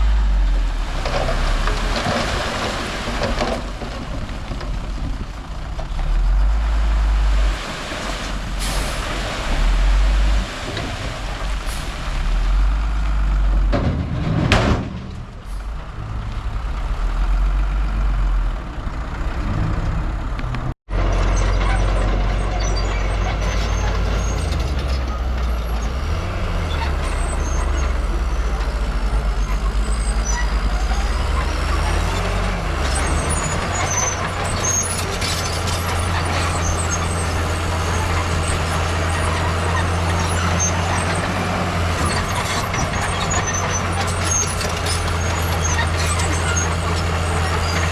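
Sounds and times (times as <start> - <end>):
diesel machinery running: 0.0 - 47.9.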